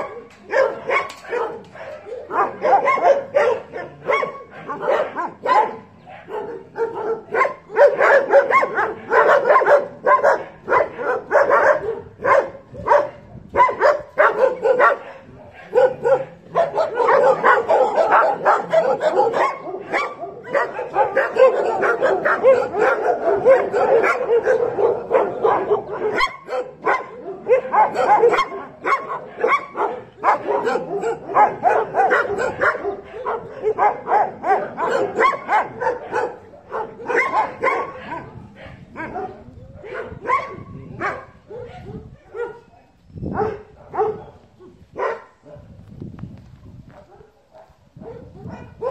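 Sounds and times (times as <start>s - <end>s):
dogs barking: 0.0s - 45.7s, 46.9s - 48.9s.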